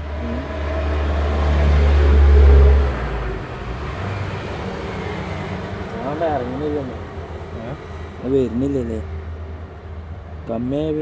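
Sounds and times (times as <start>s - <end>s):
engine revving: 0.0s - 9.0s.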